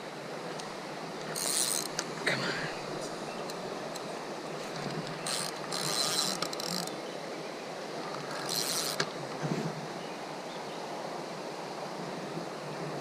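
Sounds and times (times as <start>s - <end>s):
flowing creek water: 0.0s - 13.0s.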